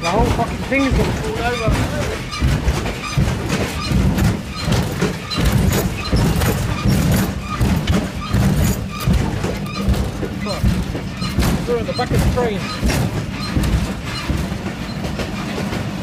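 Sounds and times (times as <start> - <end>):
train rumble: 0.0 - 16.0
wheels knocking and rattling: 0.0 - 16.0.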